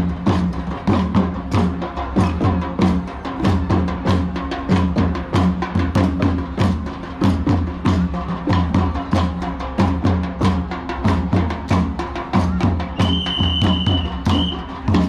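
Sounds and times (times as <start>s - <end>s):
drum-led folk dance music: 0.0s - 15.0s.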